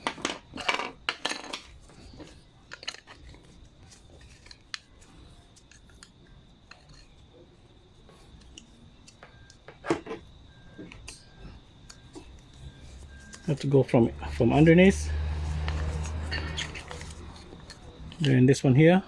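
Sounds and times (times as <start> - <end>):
small parts and tools clicking: 0.0 - 7.5, 8.1 - 13.7, 15.4 - 18.4.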